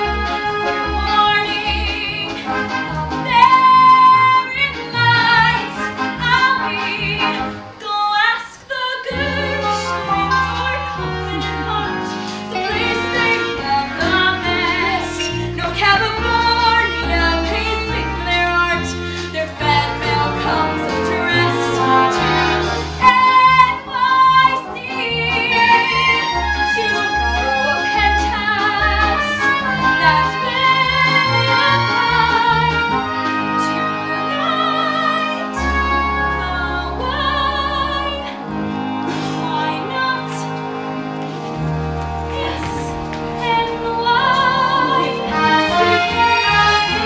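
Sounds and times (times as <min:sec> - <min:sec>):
orchestral accompaniment: 0:00.0 - 0:08.3, 0:09.0 - 0:47.0
woman singing: 0:00.9 - 0:02.4, 0:03.2 - 0:22.3, 0:23.0 - 0:38.4, 0:39.3 - 0:40.6, 0:42.3 - 0:47.0.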